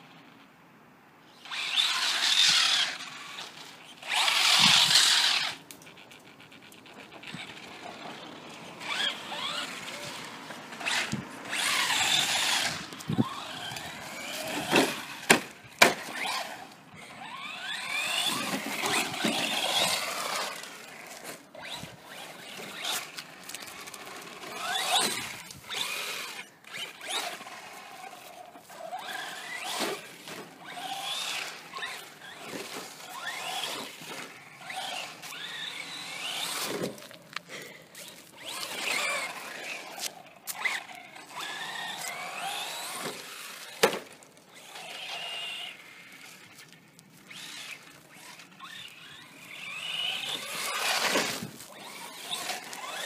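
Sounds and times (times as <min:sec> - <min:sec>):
electric motor whining: 0:01.4 - 0:06.1, 0:07.1 - 0:53.0.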